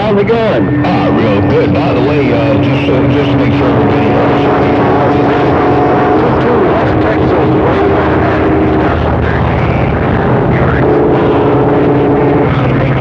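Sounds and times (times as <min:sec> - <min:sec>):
radio static rush: 0:00.0 - 0:13.0
whistling radio tones: 0:00.0 - 0:13.0.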